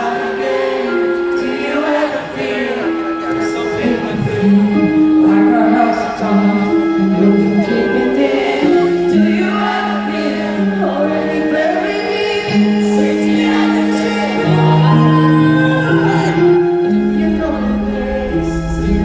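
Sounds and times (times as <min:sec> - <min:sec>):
sustained backing chords: 0:00.0 - 0:19.0.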